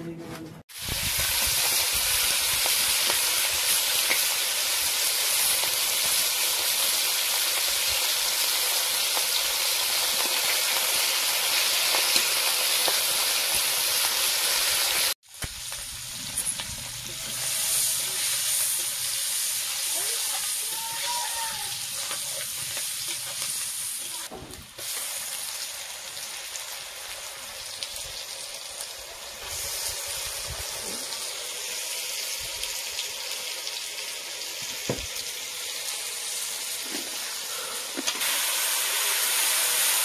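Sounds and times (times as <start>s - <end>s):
food sizzling in a pan: 0.7s - 40.0s.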